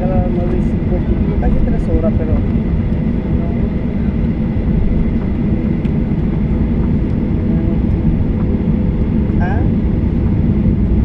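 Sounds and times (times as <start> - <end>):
cabin low rumble: 0.0 - 11.0.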